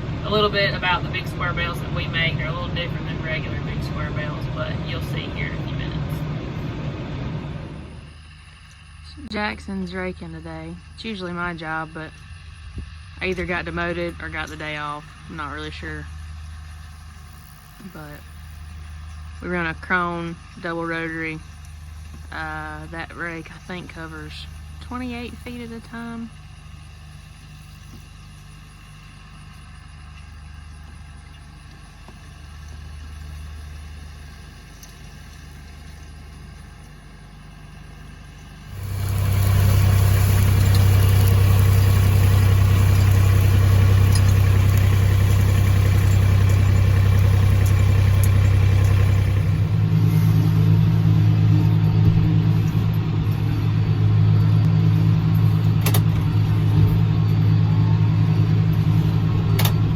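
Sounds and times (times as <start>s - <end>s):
low hum: 0.0s - 59.9s
tractor diesel engine: 0.0s - 59.9s.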